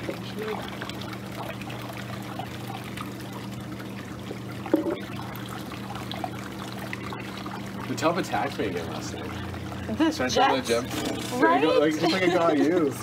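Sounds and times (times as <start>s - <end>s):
water trickling and lapping: 0.0s - 13.0s.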